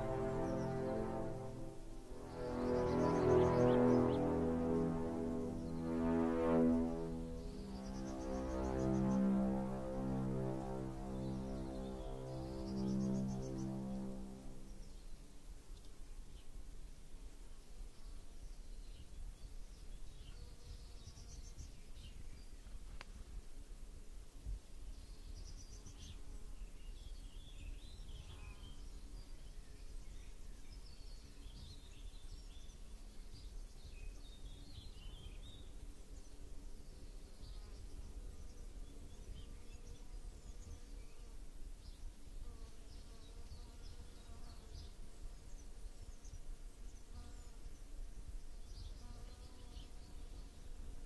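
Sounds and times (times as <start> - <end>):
faint insect buzz: 0.0 - 18.2, 19.8 - 51.0.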